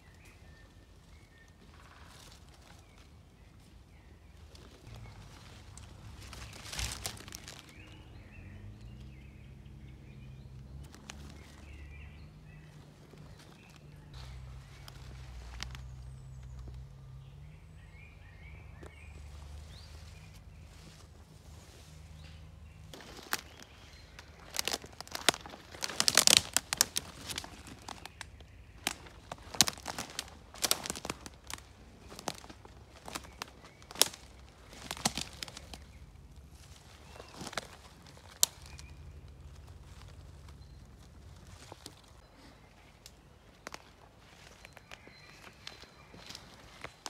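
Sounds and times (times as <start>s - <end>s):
rustle of leaves: 0.0s - 47.0s
small birds chirping: 0.0s - 47.0s.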